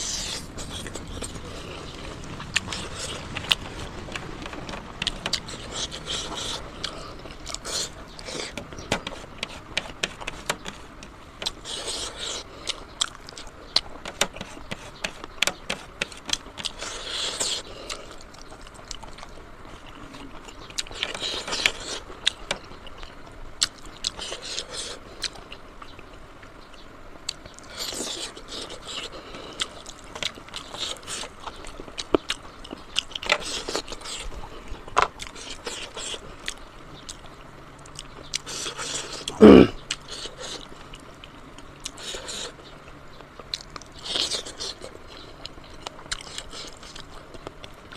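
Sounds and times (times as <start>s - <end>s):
person chewing with lip-smacking: 0.0s - 47.9s.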